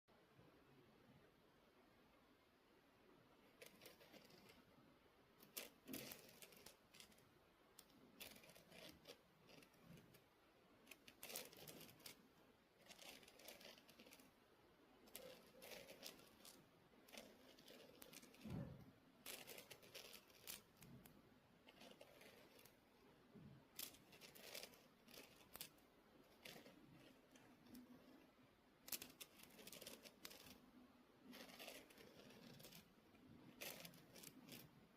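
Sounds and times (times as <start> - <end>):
scratching on an ornament: 3.4 - 34.9.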